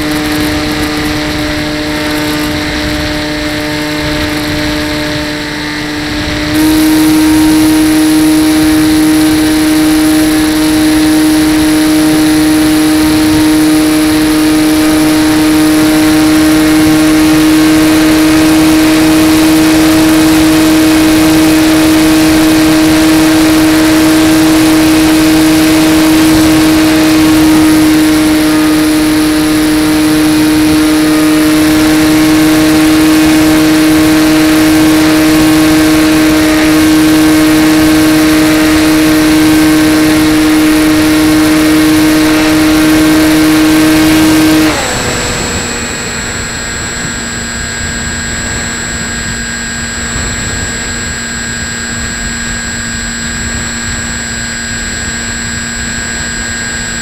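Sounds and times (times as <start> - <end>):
electric motor and propeller whine: 0.0 - 57.0
rushing air: 0.0 - 57.0.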